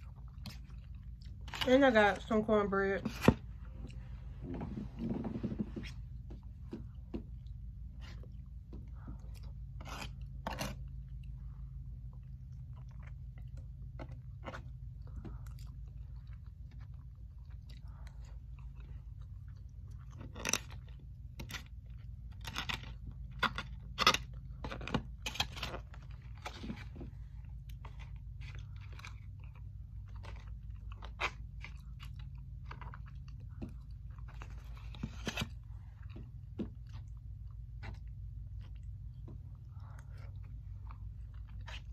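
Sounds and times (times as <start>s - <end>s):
person chewing: 0.0s - 1.7s, 3.2s - 41.9s
steady low hum: 0.0s - 41.9s.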